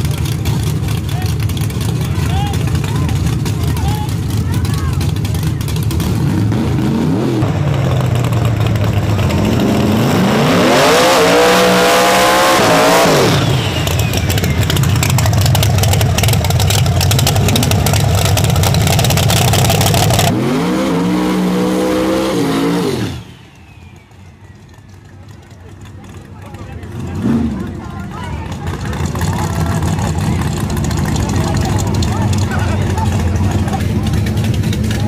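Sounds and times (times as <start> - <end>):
drag car engines revving: 0.0 - 35.0.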